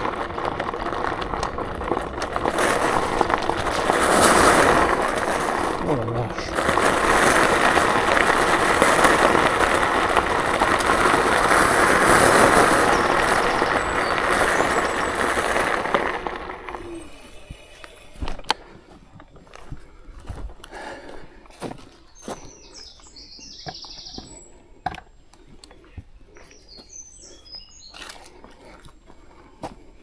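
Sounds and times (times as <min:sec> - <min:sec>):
scooter rolling and rattling on stones: 0:00.0 - 0:29.9.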